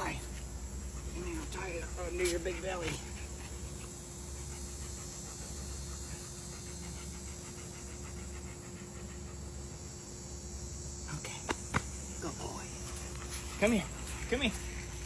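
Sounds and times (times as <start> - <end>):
dog panting: 0.0 - 10.4, 11.8 - 15.0.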